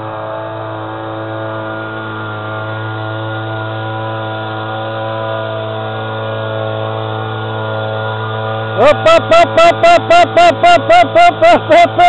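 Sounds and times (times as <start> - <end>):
small boat motor running: 0.0 - 12.0.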